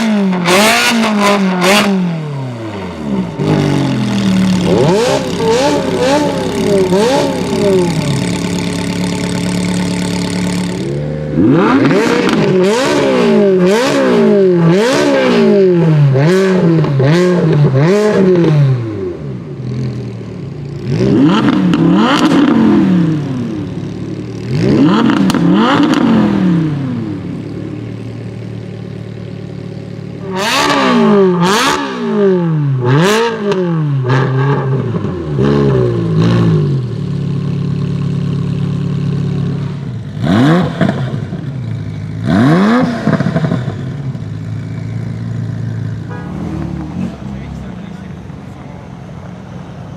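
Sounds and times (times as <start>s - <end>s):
car engine revving: 0.0s - 49.4s.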